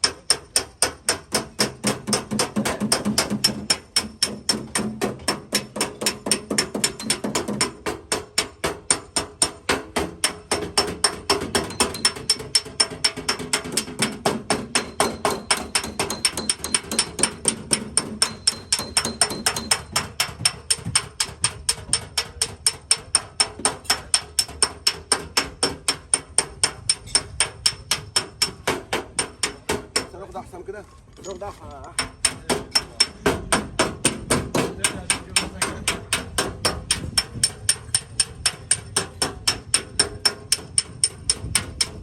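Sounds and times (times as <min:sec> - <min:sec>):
hammer tapping on sheet metal: 0:00.0 - 0:30.4, 0:31.8 - 0:42.0.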